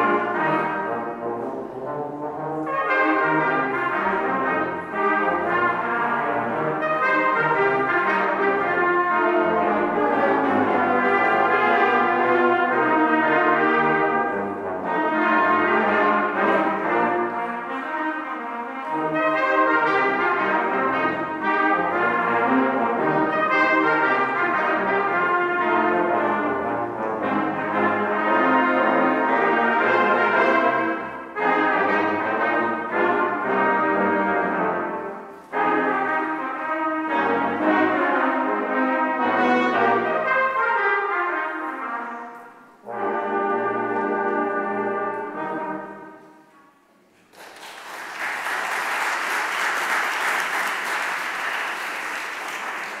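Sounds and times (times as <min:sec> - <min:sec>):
brass choir playing: 0:00.0 - 0:47.0, 0:47.9 - 0:53.0.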